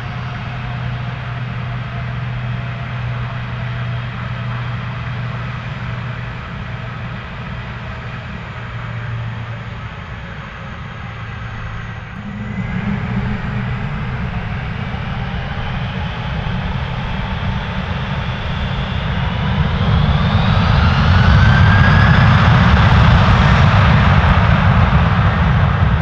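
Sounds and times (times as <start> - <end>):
engine whine rising in pitch: 0.0 - 26.0
jet engines rumbling: 0.0 - 26.0.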